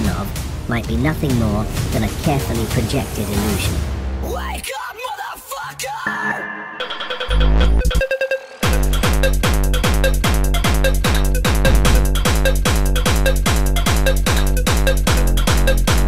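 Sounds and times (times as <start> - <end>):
electronic dance music: 0.0 - 4.5, 6.0 - 16.0.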